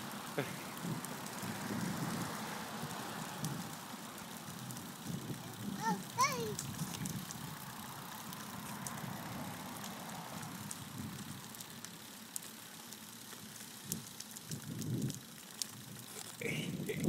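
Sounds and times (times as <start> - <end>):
small wheels rolling on asphalt: 0.0 - 17.0.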